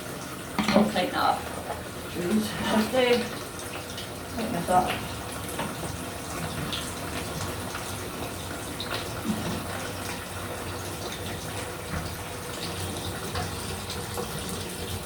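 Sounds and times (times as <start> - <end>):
water running into bucket: 0.0 - 15.0.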